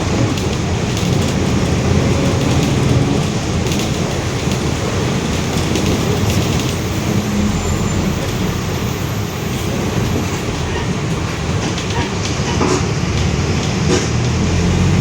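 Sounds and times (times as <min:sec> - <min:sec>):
bus drivetrain and road rumble: 0:00.0 - 0:15.0.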